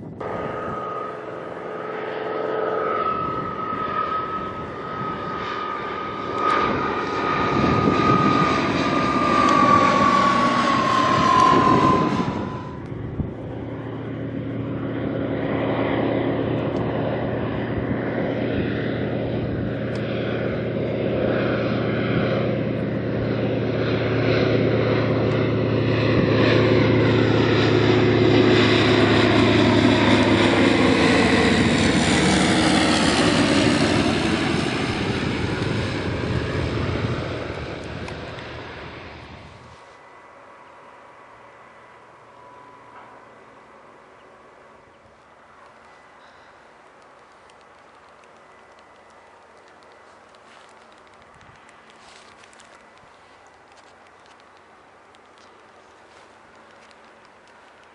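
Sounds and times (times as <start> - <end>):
propeller plane passing: 0.0 - 57.9.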